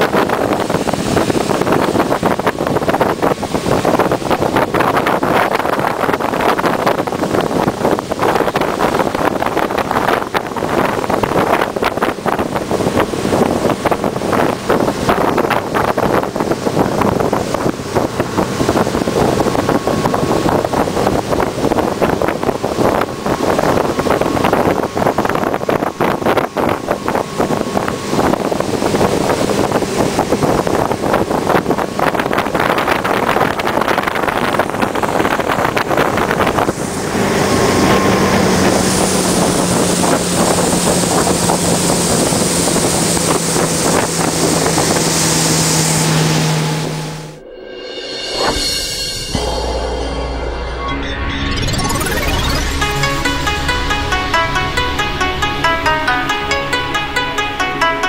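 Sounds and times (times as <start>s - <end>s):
rushing water: 0.0s - 47.3s
motorboat engine: 0.0s - 47.4s
wind buffeting microphone: 0.0s - 47.4s.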